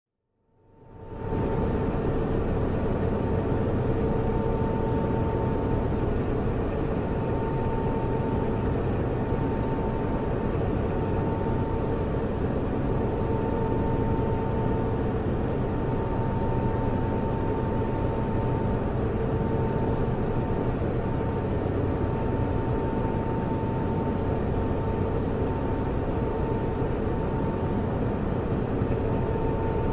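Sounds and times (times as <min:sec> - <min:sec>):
constant mid-pitched tone: 0:00.4 - 0:29.9
cooling fans rushing: 0:00.7 - 0:29.9.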